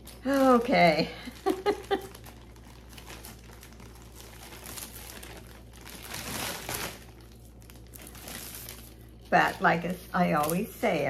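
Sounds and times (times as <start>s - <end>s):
packaging crinkling: 0.0s - 10.8s
low steady hum: 0.0s - 11.0s.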